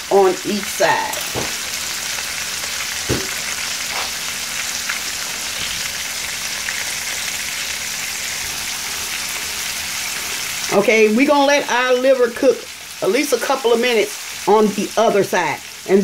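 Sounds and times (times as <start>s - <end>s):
liver sizzling in oil: 0.0s - 16.0s.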